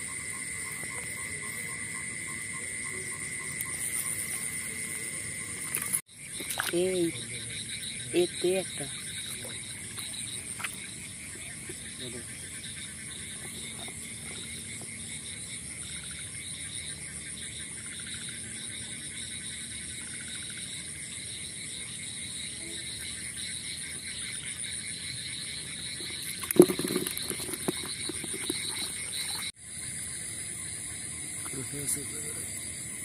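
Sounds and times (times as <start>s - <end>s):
frogs and insects chorus: 0.0s - 33.0s.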